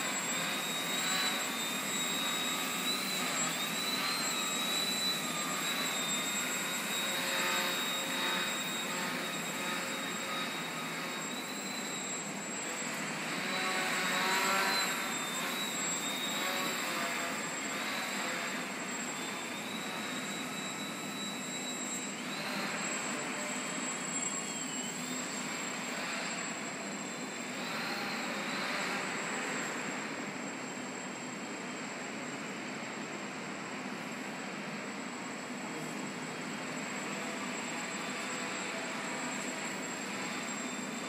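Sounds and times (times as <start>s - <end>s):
model plane motor whine: 0.0s - 41.0s.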